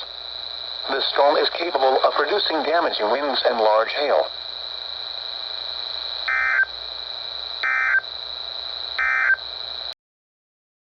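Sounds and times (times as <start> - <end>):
buzzy data bursts: 0.0 - 9.8
radio hiss: 0.0 - 10.0.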